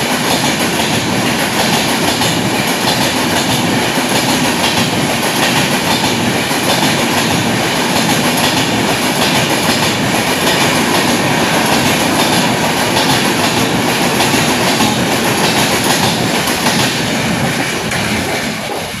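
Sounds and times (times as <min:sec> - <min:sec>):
clatter over rail joints: 0:00.0 - 0:19.0
train wheels rushing: 0:00.0 - 0:19.0.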